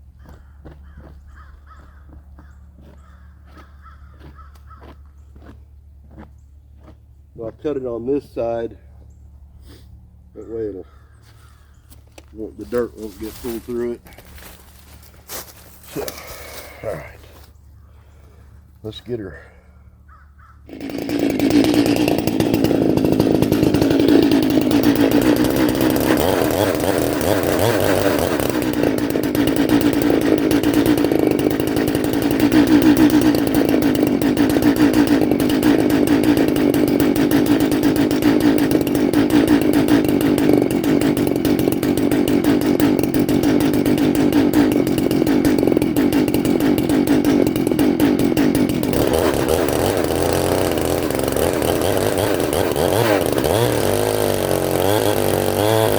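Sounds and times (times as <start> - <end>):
chainsaw cutting log: 0.0 - 8.7, 9.7 - 17.6, 20.6 - 55.9.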